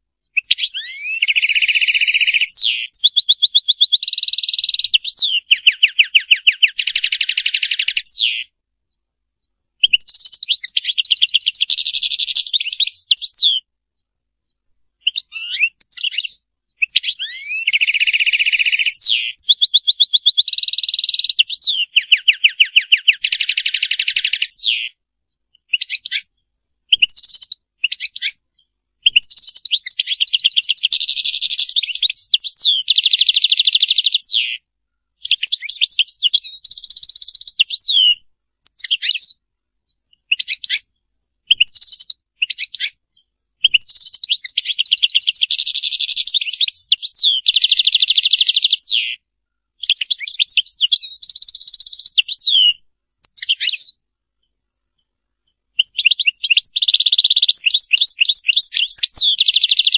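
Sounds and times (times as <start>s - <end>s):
goldfinch singing: 0.3s - 8.5s, 9.8s - 13.6s, 15.0s - 25.0s, 25.6s - 28.4s, 29.0s - 34.6s, 35.2s - 39.4s, 41.5s - 43.0s, 43.6s - 49.2s, 49.8s - 54.0s, 55.8s - 59.9s.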